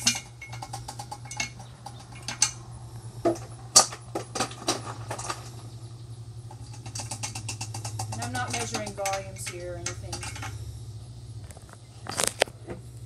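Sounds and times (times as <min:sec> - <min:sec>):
dry ice pellets clinking: 0:00.0 - 0:12.6
steady low hum: 0:00.0 - 0:13.0.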